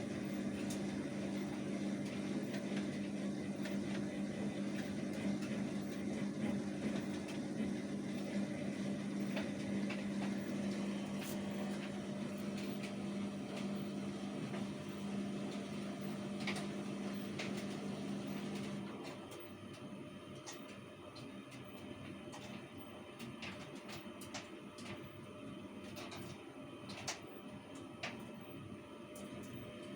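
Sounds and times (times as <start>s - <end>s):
washing machine humming: 0.0s - 29.9s.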